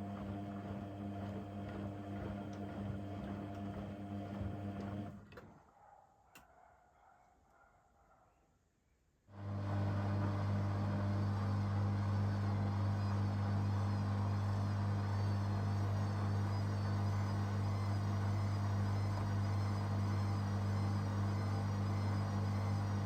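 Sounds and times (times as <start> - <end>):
washing machine drain pump humming: 0.0 - 5.3, 9.4 - 23.0.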